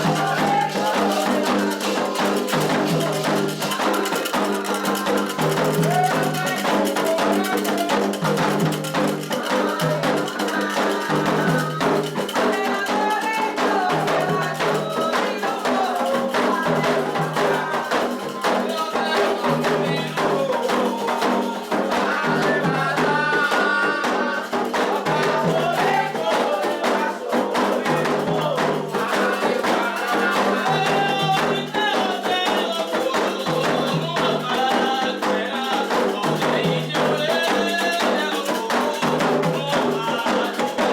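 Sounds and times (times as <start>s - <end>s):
chanted singing: 0.0s - 40.9s
hand drums: 0.0s - 40.9s
rattling percussion: 0.0s - 40.9s.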